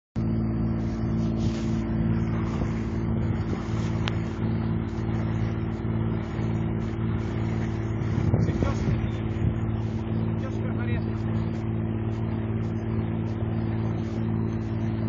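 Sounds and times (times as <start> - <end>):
boat engine running: 0.2 - 15.0.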